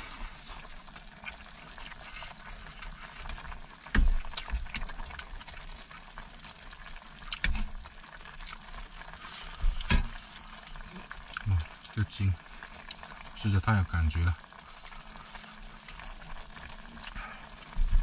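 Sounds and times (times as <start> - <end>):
pot simmering and bubbling: 0.0 - 18.0.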